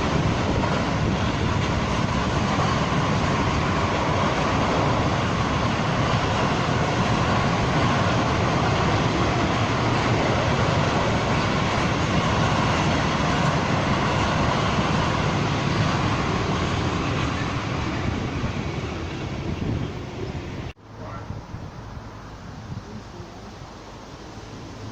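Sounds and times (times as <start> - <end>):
train passing: 0.0 - 24.9.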